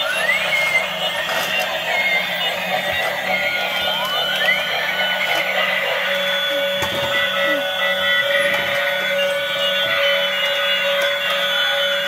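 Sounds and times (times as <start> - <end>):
toy trains electronic tunes: 0.0 - 12.0.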